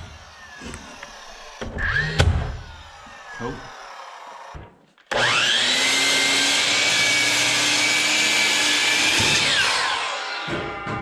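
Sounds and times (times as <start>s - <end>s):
miter saw motor whining: 0.0s - 11.0s
saw cutting wood board: 0.0s - 11.0s.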